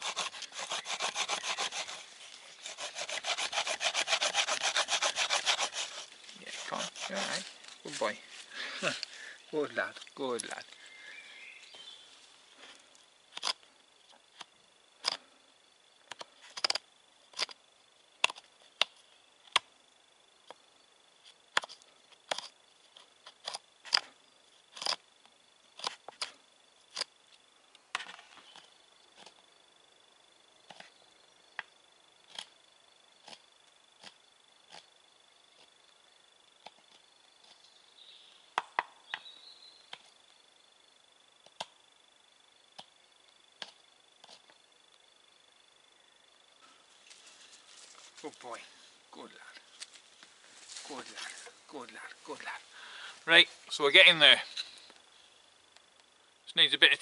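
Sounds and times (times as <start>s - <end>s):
high insect trill: 0.0s - 57.0s.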